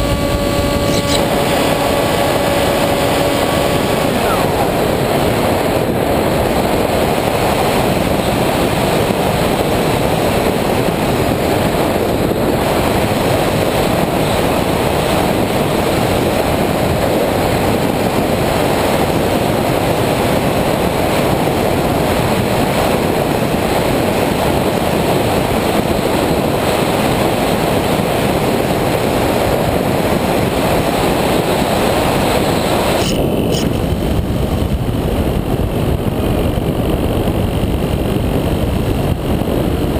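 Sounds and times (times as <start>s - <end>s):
propeller running: 0.0s - 39.9s.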